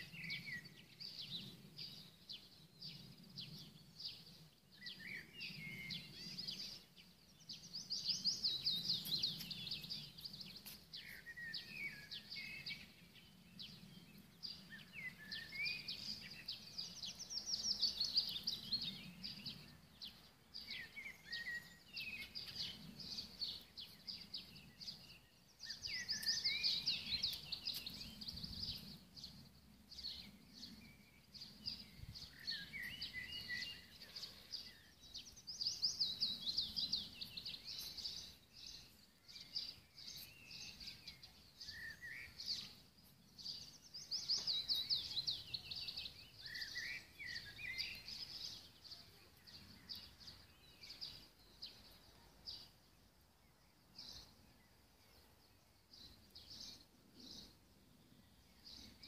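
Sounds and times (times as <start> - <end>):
birds singing high trills: 0.0 - 52.6.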